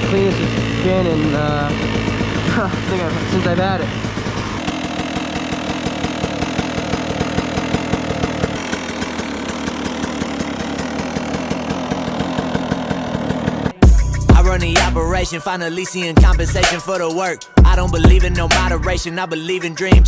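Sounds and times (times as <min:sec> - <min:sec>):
dirt bike engine idling: 0:00.0 - 0:15.3, 0:16.2 - 0:16.8, 0:17.6 - 0:19.0.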